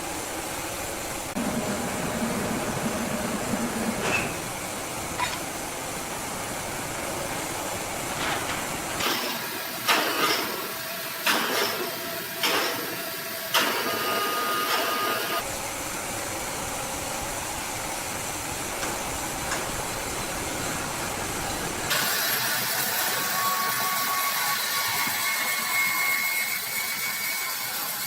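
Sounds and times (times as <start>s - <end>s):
sawmill machinery hissing and humming: 0.0s - 28.0s.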